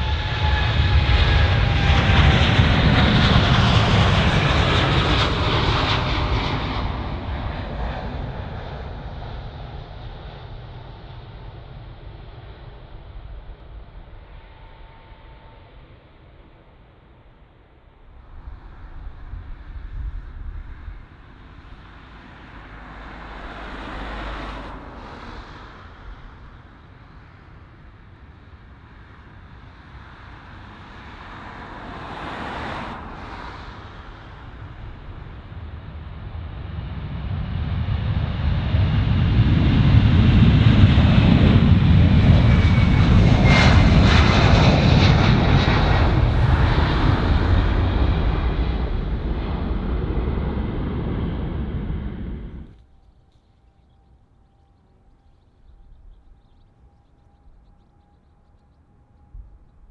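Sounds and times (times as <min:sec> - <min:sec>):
jet engines roaring: 0:00.0 - 0:17.2, 0:17.9 - 0:59.9.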